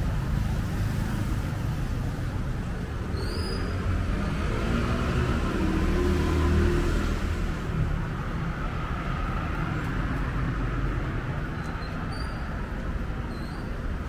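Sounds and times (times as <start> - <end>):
passing vehicles rumble: 0.0 - 14.0.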